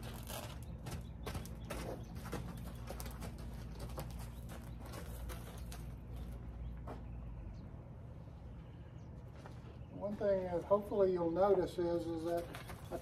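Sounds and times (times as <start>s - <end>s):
horse hooves on sandy dirt: 0.0s - 7.6s, 9.1s - 13.0s.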